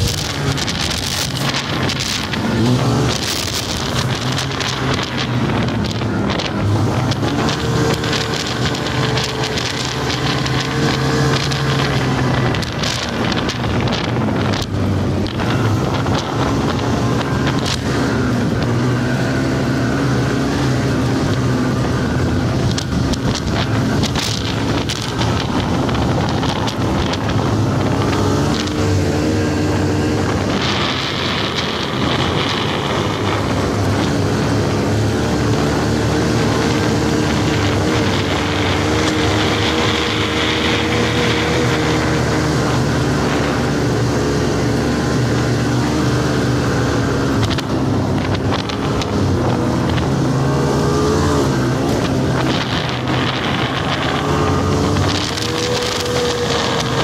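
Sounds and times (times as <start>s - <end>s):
snowmobile engine running: 0.0s - 57.0s
wind noise on microphone: 0.0s - 57.0s.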